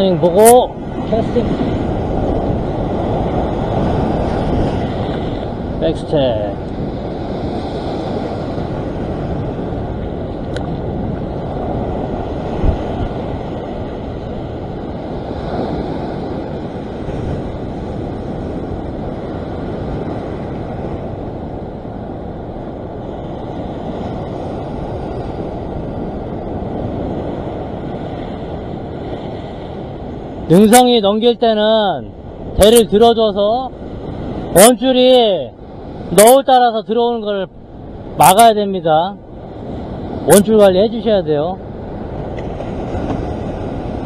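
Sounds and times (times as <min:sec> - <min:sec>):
ocean surf washing over rocks: 0:00.0 - 0:44.0.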